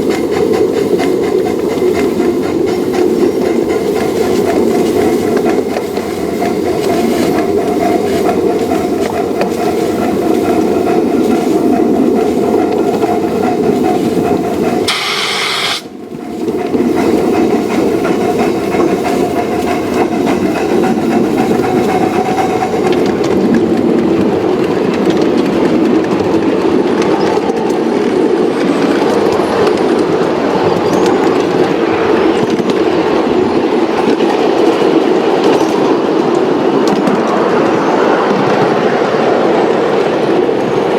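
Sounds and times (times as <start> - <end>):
train running on track: 0.0 - 40.9.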